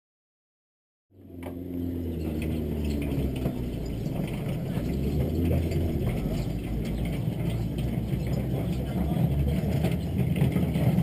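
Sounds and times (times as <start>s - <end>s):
sports car engine idling: 1.2s - 11.0s.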